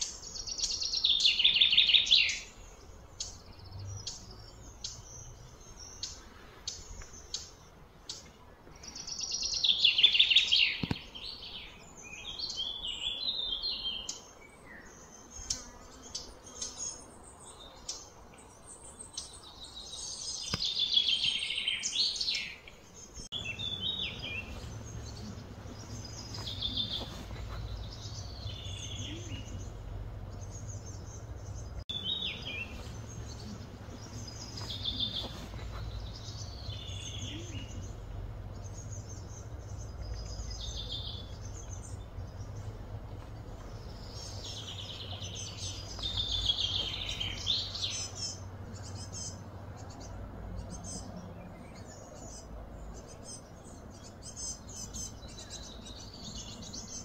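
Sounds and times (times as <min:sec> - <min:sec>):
birds chirping: 0:00.0 - 0:57.0
low background hum: 0:00.0 - 0:57.0.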